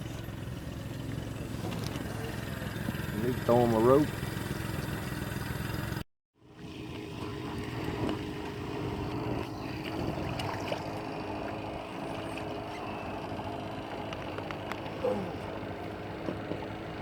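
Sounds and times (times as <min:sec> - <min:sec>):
motorboat engine running: 0:00.0 - 0:17.0
water noise: 0:00.0 - 0:17.0.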